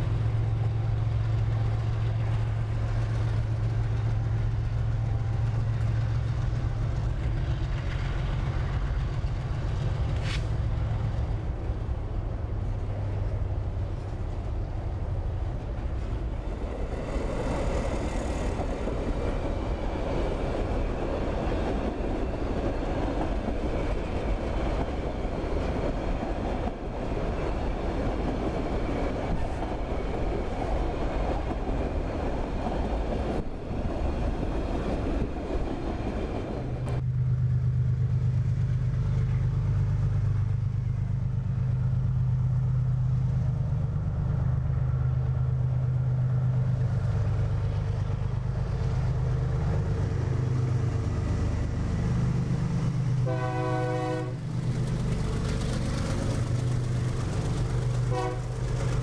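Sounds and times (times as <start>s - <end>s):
diesel locomotive engine drone: 0.0s - 59.0s
train wheels rumbling on rails: 0.0s - 59.0s.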